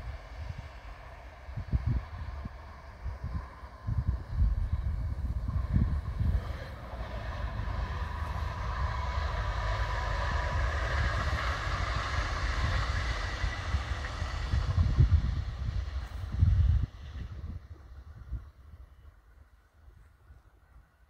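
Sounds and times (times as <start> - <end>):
wind buffeting microphone: 0.0 - 20.8
train passing with whine: 0.0 - 21.0.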